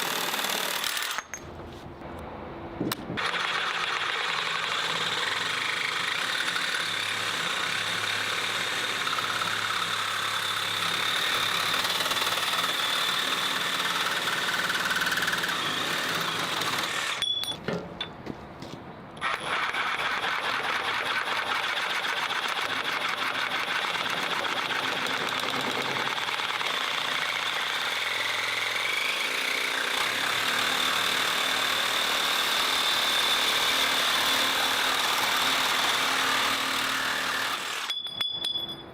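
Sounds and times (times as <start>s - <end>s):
reciprocating saw cutting: 0.0s - 1.3s, 3.2s - 17.2s, 19.2s - 38.0s.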